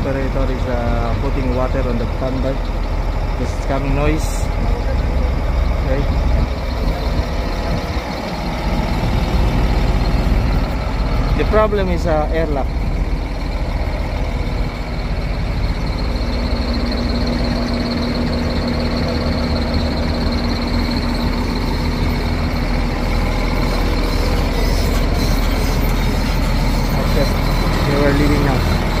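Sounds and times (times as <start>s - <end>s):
excavator diesel engine running: 0.0s - 29.0s
thin steady whine: 0.0s - 29.0s.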